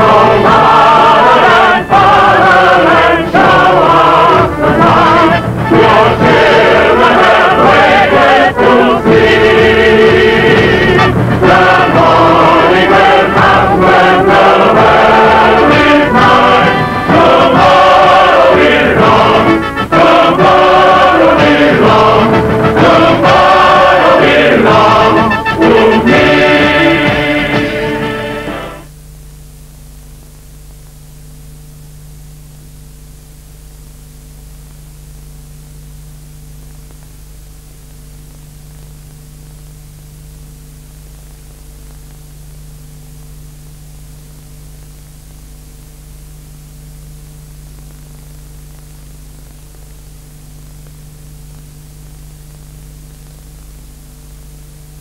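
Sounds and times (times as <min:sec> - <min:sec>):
low electrical hum: 0:00.0 - 0:55.0
steady tape hiss: 0:00.0 - 0:55.0.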